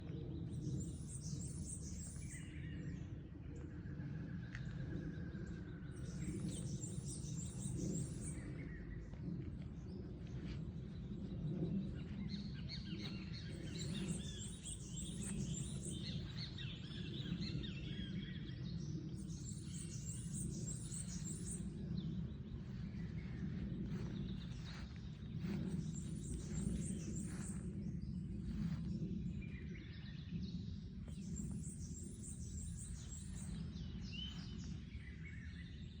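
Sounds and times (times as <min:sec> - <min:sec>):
low background rumble: 0:00.0 - 0:36.0.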